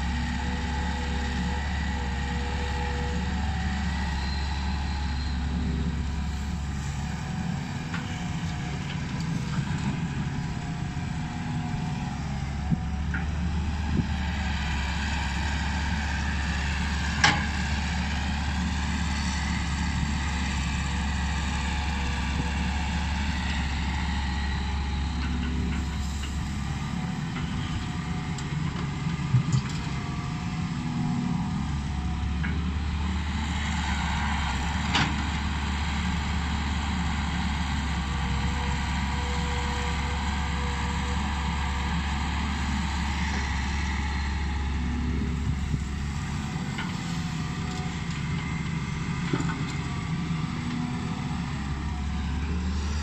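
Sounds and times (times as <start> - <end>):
excavator diesel engine: 0.0 - 53.0.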